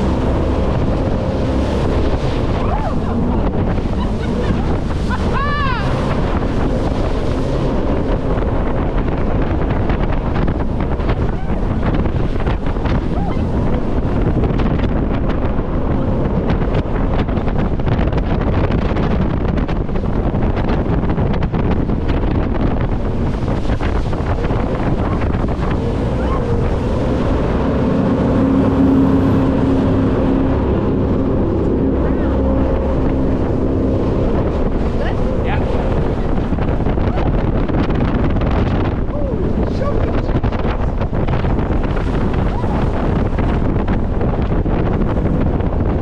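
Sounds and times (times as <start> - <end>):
jet boat engine roar: 0.0 - 46.0
low engine hum: 0.0 - 46.0
rushing water and spray: 0.0 - 46.0
wind buffeting microphone: 0.0 - 46.0.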